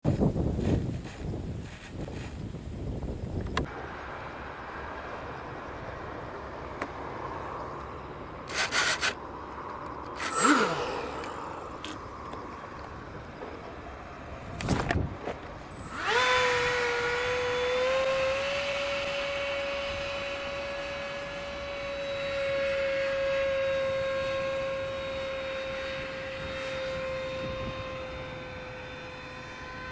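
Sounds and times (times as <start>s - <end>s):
wind noise: 0.0s - 29.9s
electric ducted fan whine: 0.1s - 29.9s.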